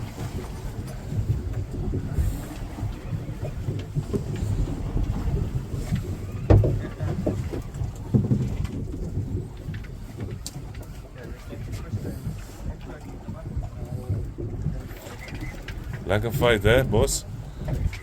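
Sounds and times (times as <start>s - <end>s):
knocks on boat: 0.0s - 18.0s
wind buffeting microphone: 0.0s - 18.0s.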